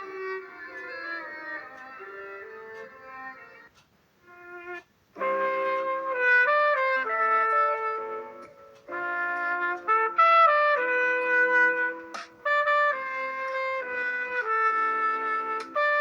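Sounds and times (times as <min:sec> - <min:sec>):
brass ringtone melody: 0:00.0 - 0:16.0.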